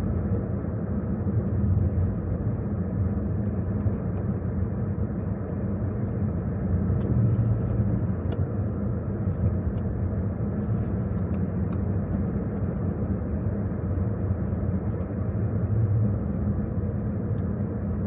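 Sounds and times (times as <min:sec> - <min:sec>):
car engine and road drone: 0:00.0 - 0:18.0.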